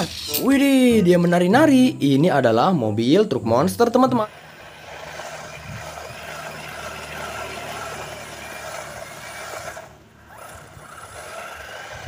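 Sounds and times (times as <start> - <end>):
toy truck motor whining: 0.0 - 1.7, 3.5 - 12.0.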